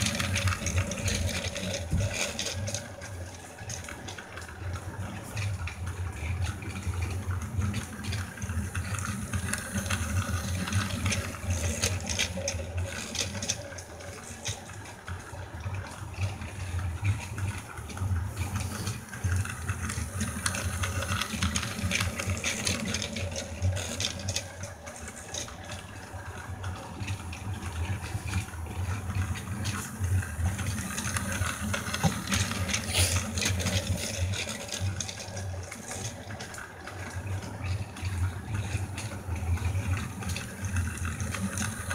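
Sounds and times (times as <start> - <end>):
toy train motor whir: 0.0 - 41.9
wheels rattling over track joints: 0.0 - 41.9.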